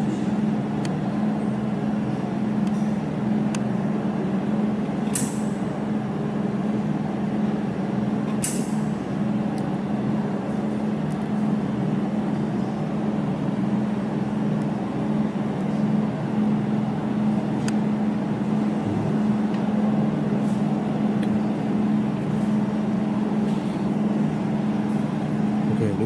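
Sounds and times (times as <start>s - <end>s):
laser welding machine hum: 0.0s - 26.0s.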